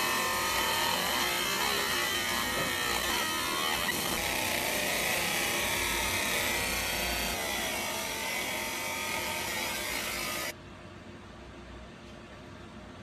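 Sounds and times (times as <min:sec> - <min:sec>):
laser engraving machine hissing buzzing: 0:00.0 - 0:10.6.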